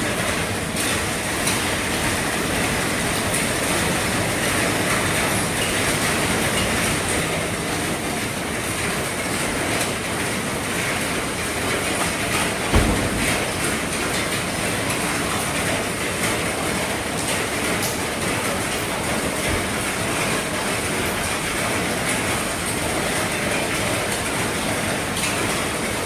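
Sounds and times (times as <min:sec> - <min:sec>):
heavy rain drumming on roof: 0:00.0 - 0:26.0.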